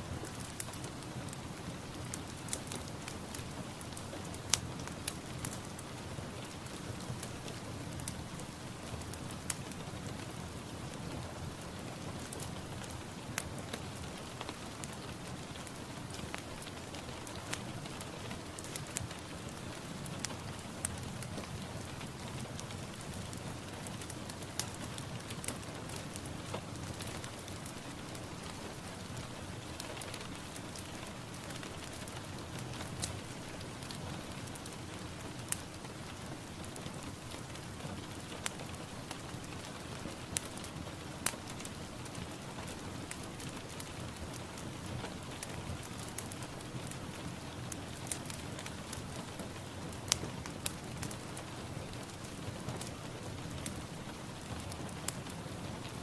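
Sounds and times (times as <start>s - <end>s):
sharp ticks of raindrops: 0.0s - 56.0s
steady rain falling: 0.0s - 56.0s.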